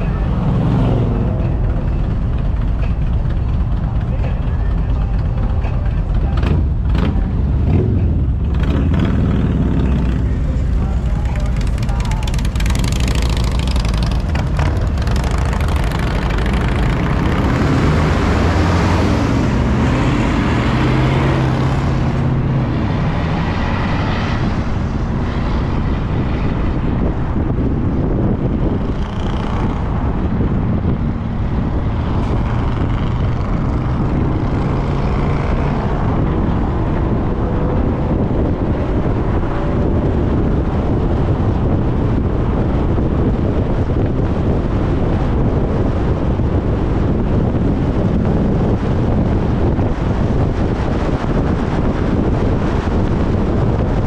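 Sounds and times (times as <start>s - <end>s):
low engine drone: 0.0s - 54.0s
tyre and road noise: 0.0s - 54.0s.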